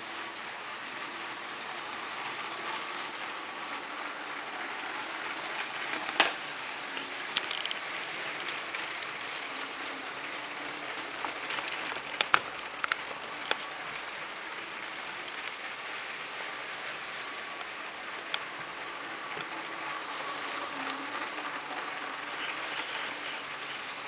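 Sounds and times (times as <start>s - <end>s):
toy trains rolling on track: 0.0s - 24.0s.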